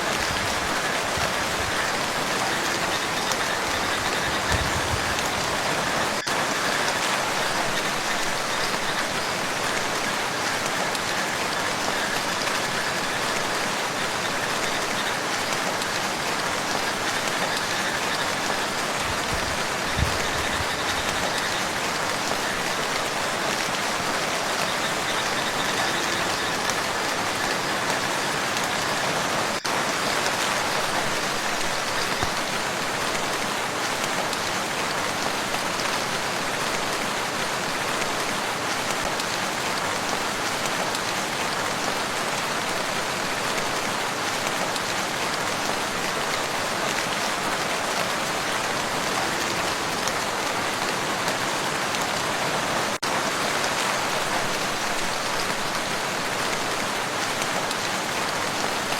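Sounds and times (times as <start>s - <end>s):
rain falling on water: 0.0s - 58.9s.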